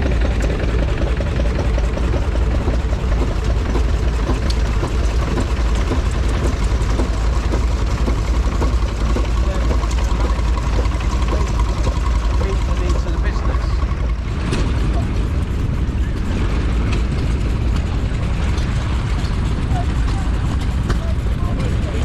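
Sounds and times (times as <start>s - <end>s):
stationary engine rumbling: 0.0s - 22.0s.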